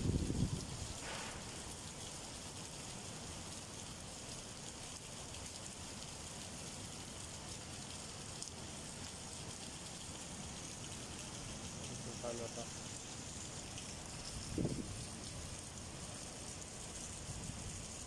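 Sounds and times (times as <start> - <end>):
heavy rain on street and cars: 0.0 - 18.0.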